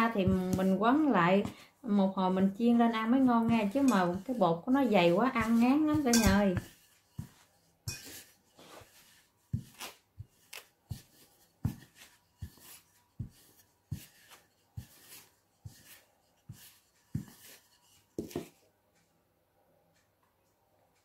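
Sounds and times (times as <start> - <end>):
rolling pin rolling dough: 0.0 - 18.7.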